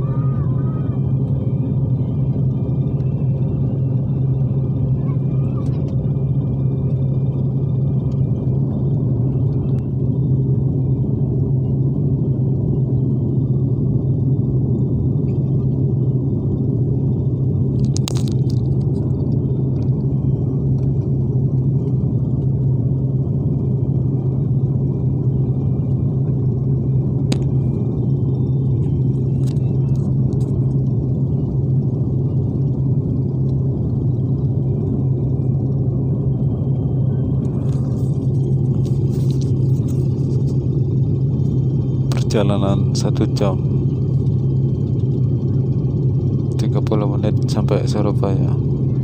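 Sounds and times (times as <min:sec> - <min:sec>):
airliner cabin drone: 0:00.0 - 0:49.0.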